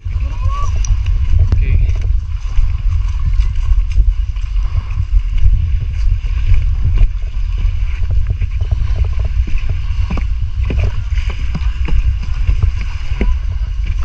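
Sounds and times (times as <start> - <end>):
wind buffeting microphone: 0.0 - 14.0
footsteps on coarse sand: 0.7 - 14.0.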